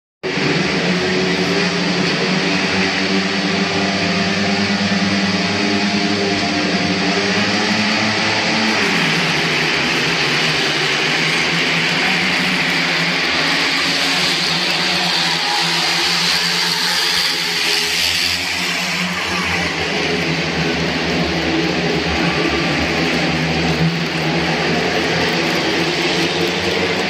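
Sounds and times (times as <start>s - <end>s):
racing motorcycle engines: 0.2s - 27.0s.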